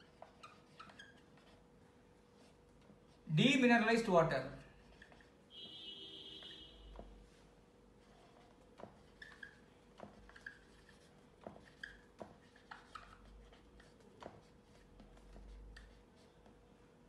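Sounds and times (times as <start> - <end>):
marker squeaking on whiteboard: 0.0 - 1.7, 2.4 - 3.3, 4.7 - 7.4, 8.0 - 16.6.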